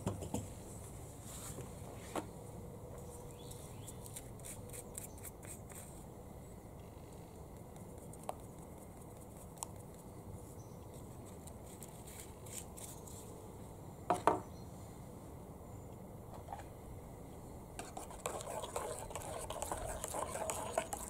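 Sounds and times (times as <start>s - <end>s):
faint steady background noise: 0.0s - 21.0s.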